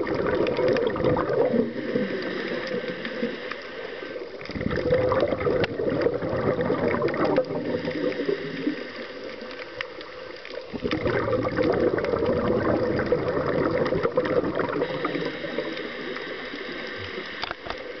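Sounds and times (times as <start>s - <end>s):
underwater exhaled bubbles gurgling: 0.0s - 18.0s.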